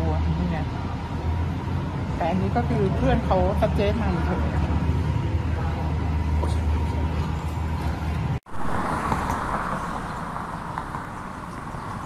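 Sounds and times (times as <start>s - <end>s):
outdoor ambience hiss: 0.0s - 12.0s
road traffic rumble: 0.0s - 12.0s.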